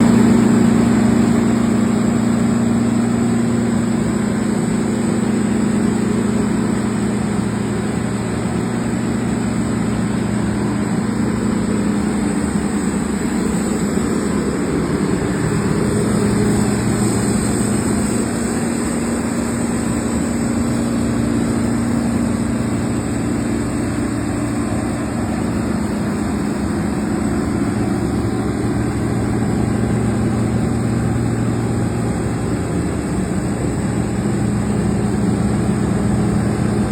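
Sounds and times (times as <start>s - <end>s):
combine harvester engine drone: 0.0s - 36.9s.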